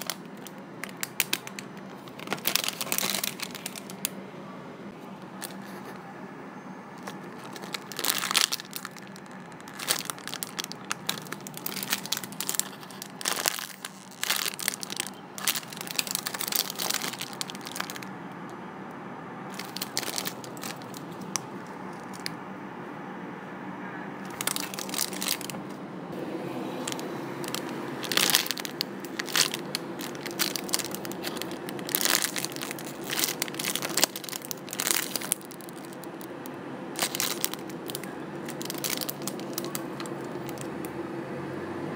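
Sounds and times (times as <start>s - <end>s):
plastic bags crinkling: 0.0s - 4.2s, 5.3s - 5.9s, 7.0s - 18.1s, 19.5s - 22.3s, 24.2s - 25.8s, 26.8s - 40.8s.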